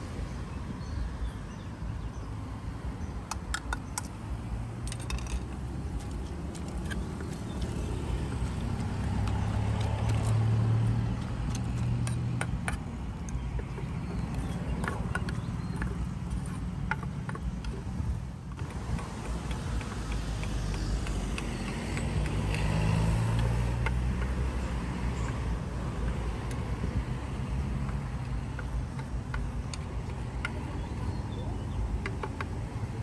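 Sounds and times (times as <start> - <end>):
passing vehicles engine hum: 0.0 - 33.0.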